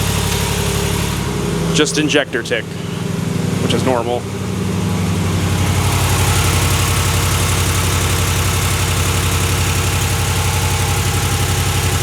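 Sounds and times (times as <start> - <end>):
fuel injector ticking: 0.0 - 12.0
truck engine idling: 0.0 - 12.0.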